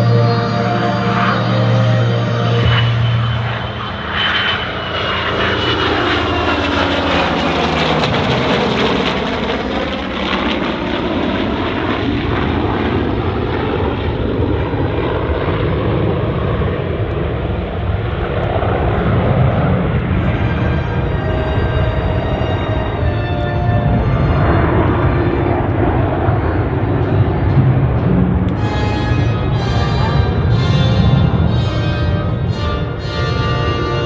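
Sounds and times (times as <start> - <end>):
aircraft engines flying past: 0.0 - 34.0.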